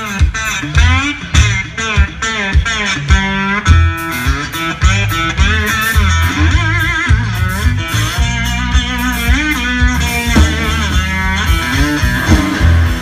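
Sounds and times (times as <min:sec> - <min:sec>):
amplified guitar lead lines: 0:00.0 - 0:13.0
blues band playing: 0:00.0 - 0:13.0.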